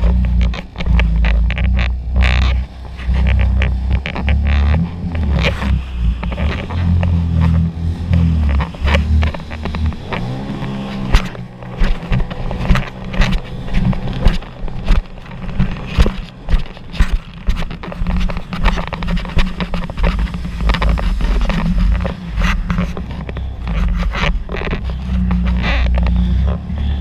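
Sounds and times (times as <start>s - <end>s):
watercraft engine droning: 0.0s - 27.0s.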